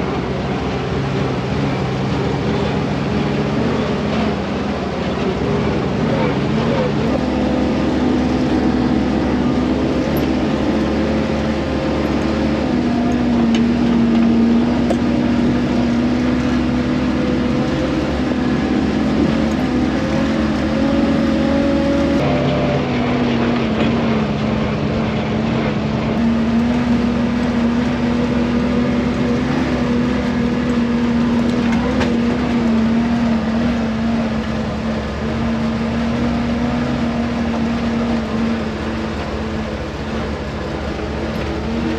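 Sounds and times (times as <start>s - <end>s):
truck engine drone inside cab: 0.0s - 41.9s.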